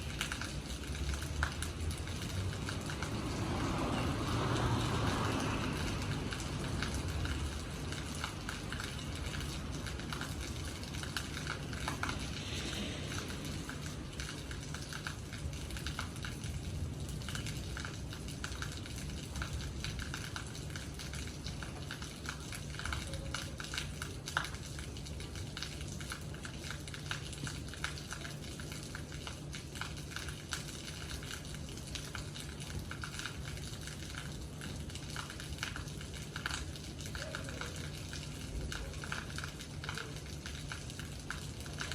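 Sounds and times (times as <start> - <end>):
rain drop ticks: 0.0 - 41.9
rain hiss: 0.0 - 41.9.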